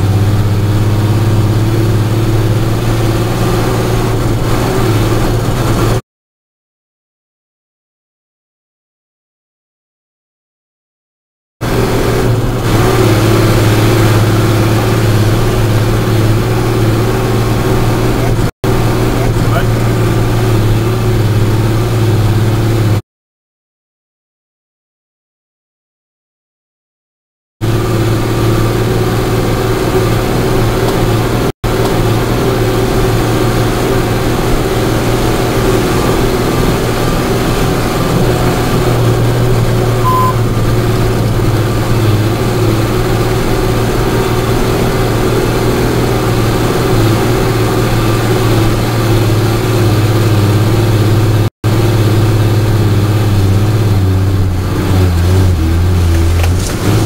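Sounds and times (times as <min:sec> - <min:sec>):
truck engine droning: 0:00.0 - 0:06.0, 0:11.6 - 0:23.0, 0:27.6 - 0:57.0.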